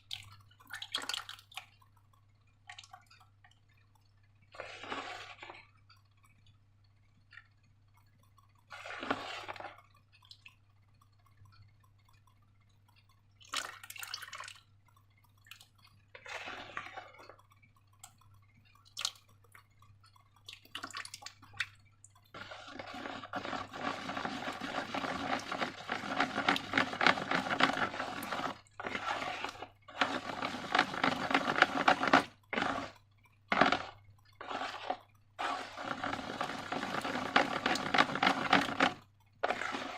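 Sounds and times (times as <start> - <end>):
slime squelching: 0.0 - 6.6, 7.2 - 39.9.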